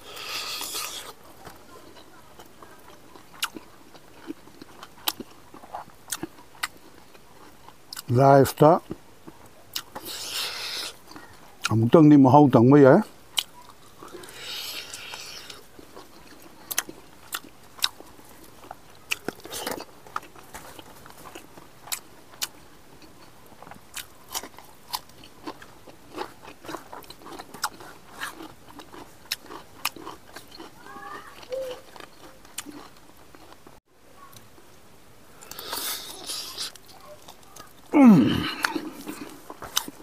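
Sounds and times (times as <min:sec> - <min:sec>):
person chewing with wet mouth clicks: 0:00.1 - 0:08.1, 0:08.8 - 0:11.8, 0:13.4 - 0:30.8, 0:31.4 - 0:33.6, 0:38.4 - 0:40.0.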